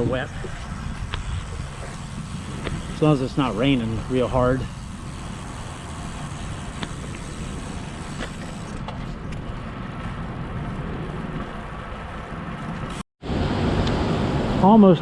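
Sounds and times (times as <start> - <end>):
steady rush: 0.0 - 15.0
wind and road noise: 0.0 - 15.0.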